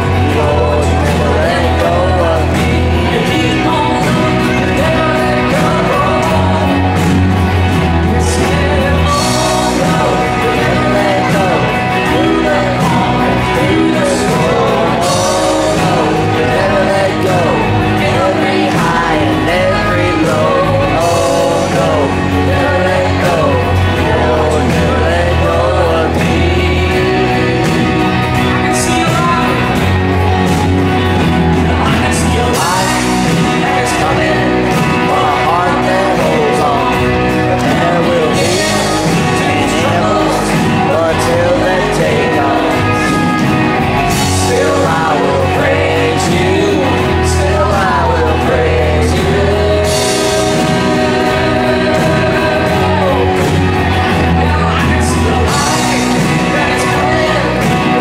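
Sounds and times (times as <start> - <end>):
bass line: 0.0 - 58.0
gospel worship song: 0.0 - 58.0
person singing: 0.0 - 58.0.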